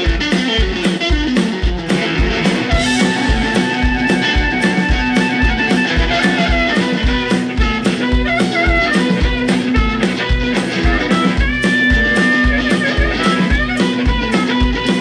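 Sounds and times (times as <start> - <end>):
amplified harmonica wailing: 0.0 - 15.0
drum kit beat: 0.0 - 15.0
electric guitar: 0.0 - 15.0.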